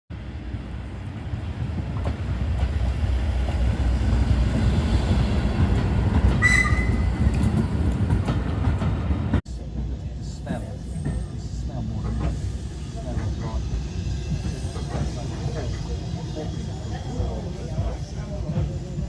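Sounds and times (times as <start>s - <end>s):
train rumbling on rails: 0.1s - 19.0s
rail clicks: 1.0s - 19.0s.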